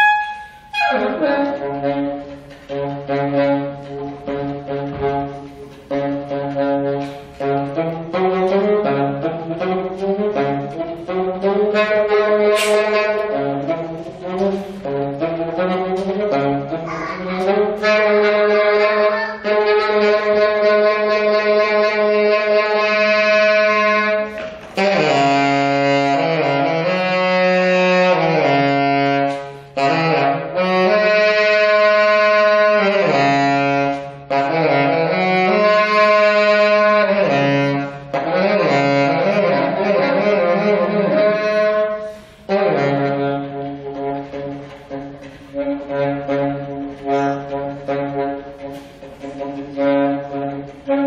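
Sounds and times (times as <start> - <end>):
saxophone melody: 0.0 - 51.0.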